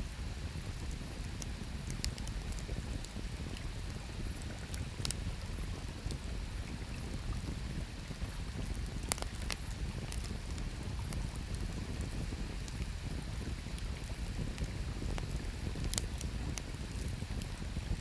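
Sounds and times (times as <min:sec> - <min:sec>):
wood fire crackling and popping: 0:00.4 - 0:18.0.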